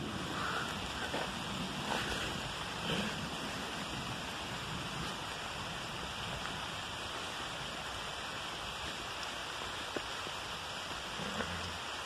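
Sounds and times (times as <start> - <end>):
rain on leaves: 0.0 - 12.0.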